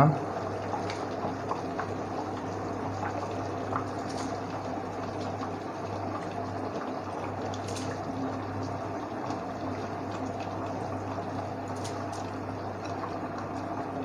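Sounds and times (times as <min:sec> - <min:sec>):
gravy bubbling in a pot: 0:00.0 - 0:14.0.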